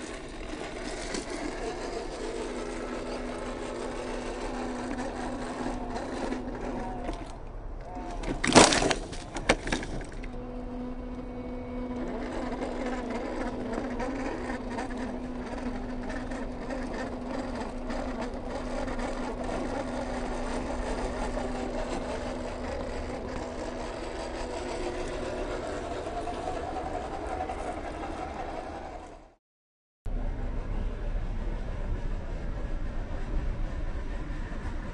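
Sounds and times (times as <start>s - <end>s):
drivetrain grinding: 0.0s - 29.4s
electric motor whining: 0.0s - 29.4s.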